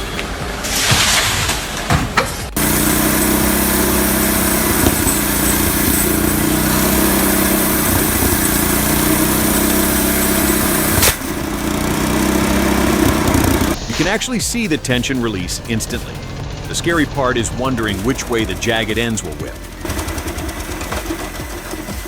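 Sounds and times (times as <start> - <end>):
chainsaw engine running: 2.6 - 22.0.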